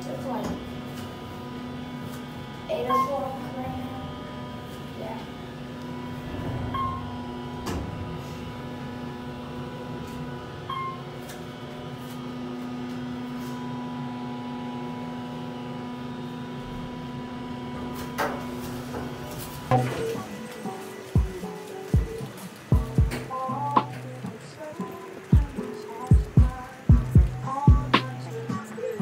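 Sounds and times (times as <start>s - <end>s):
elevator humming: 0.0s - 29.0s.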